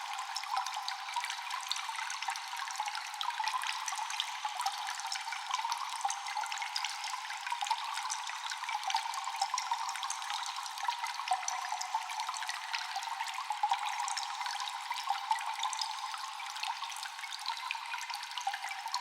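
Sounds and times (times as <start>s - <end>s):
water dripping in a cave: 0.0s - 19.0s
water trickling: 0.0s - 19.0s.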